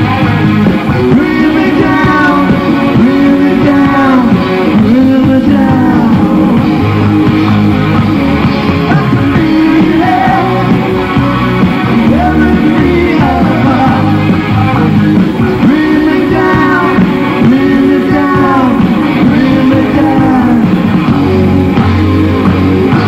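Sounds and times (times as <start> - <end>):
electric guitar: 0.0 - 23.0
rock band playing live: 0.0 - 23.0
man singing: 0.9 - 6.8, 8.8 - 21.5.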